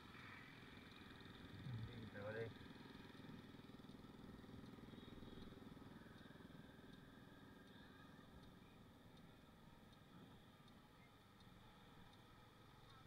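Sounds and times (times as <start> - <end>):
faint muffled motorbike engine: 0.0 - 13.0.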